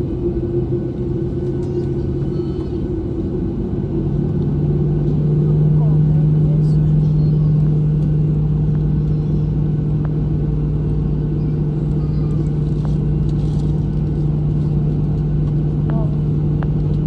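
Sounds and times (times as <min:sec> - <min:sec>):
airplane cabin drone: 0:00.0 - 0:17.0.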